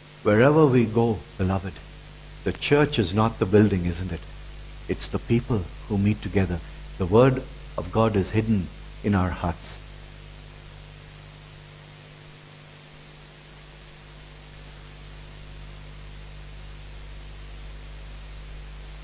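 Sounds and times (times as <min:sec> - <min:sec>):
low mains hum: 0:00.0 - 0:19.0
steady hiss: 0:00.0 - 0:19.0.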